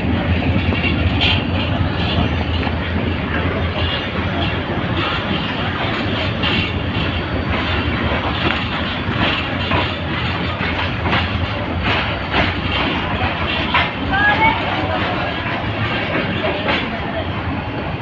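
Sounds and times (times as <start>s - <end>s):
wheels clacking over rail joints: 0.0s - 17.4s
train wheels rumbling on track: 0.0s - 18.0s.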